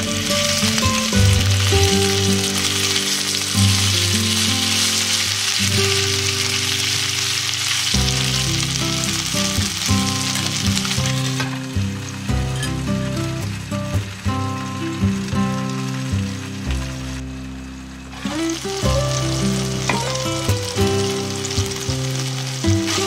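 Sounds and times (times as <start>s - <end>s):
background music: 0.0s - 23.0s
meat sizzling in a pan: 0.0s - 23.0s.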